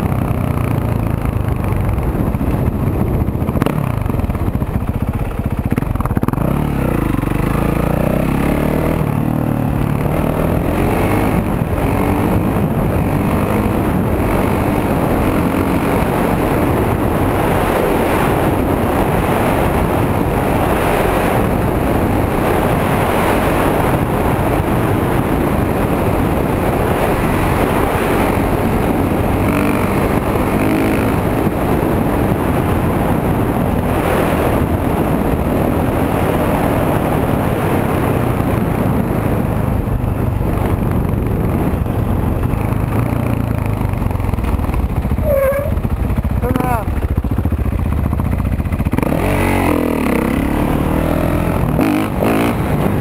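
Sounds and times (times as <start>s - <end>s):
dirt bike engine accelerating: 0.0s - 53.0s
wind and road noise: 0.0s - 53.0s.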